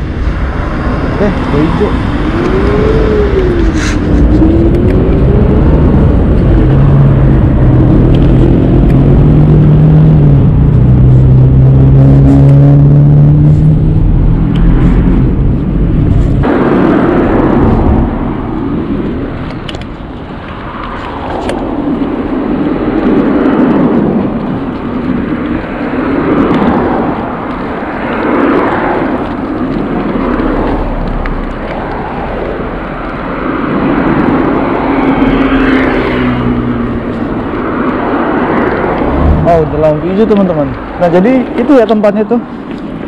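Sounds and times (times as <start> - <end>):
road traffic: 0.0 - 43.0
steady engine hum: 0.0 - 43.0
wind rushing over microphone: 0.0 - 43.0.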